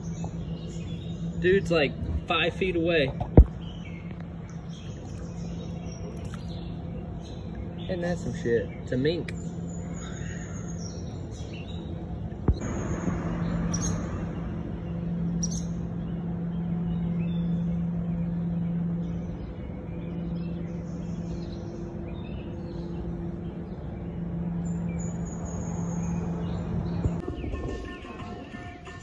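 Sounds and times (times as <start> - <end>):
birds chirping: 0.0 - 29.0
low hum: 0.0 - 29.0.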